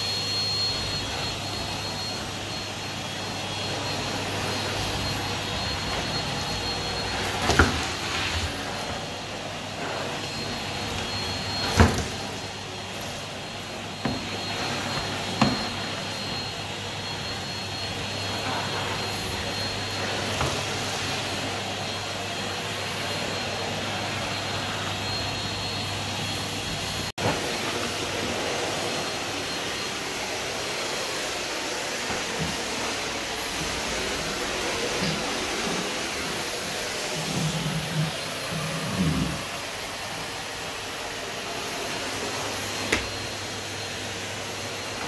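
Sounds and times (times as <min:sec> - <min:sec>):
vacuum cleaner whining: 0:00.0 - 0:45.0.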